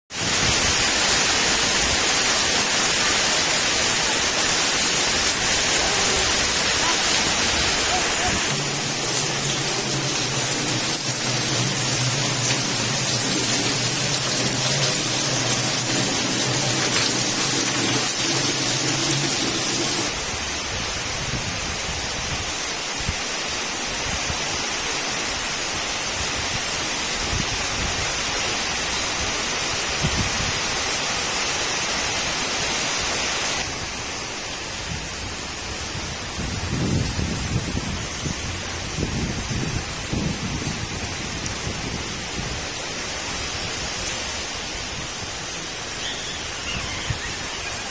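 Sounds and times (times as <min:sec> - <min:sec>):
heavy rain hissing: 0:00.1 - 0:47.9
water streaming onto ground: 0:00.1 - 0:47.9.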